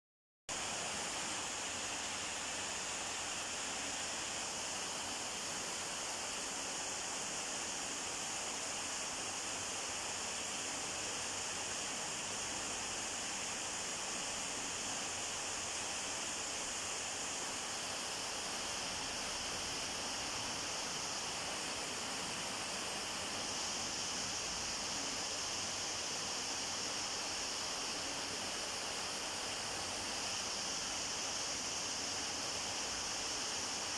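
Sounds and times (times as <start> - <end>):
steady hiss: 0.5 - 33.9.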